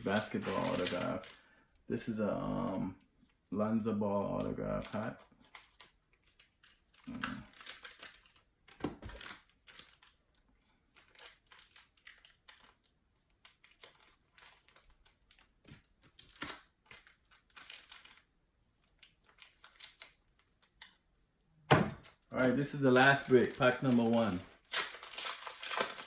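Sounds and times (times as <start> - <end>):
foil wrapper crinkling and tearing: 0.0 - 1.6, 4.7 - 21.0, 22.0 - 26.0.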